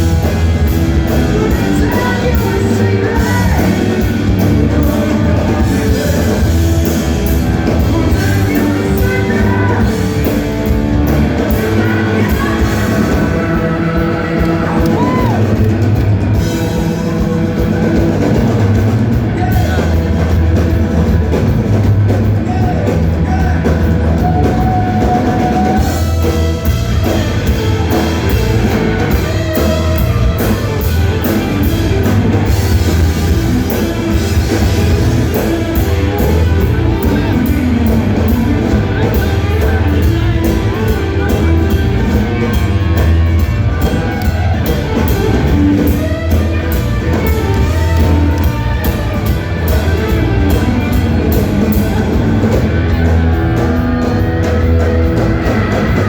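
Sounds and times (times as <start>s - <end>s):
driving drum kit: 0.0s - 56.0s
guitar: 0.0s - 56.0s
heavy bass line: 0.0s - 56.0s
rock band playing: 0.0s - 56.0s.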